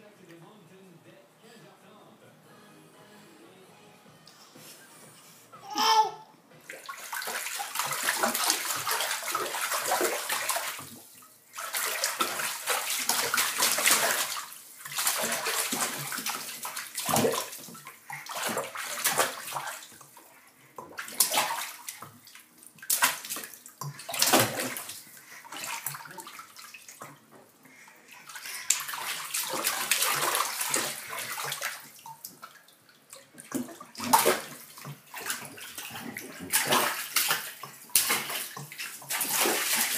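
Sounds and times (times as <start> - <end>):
water splashing in a bathtub: 6.6 - 39.9.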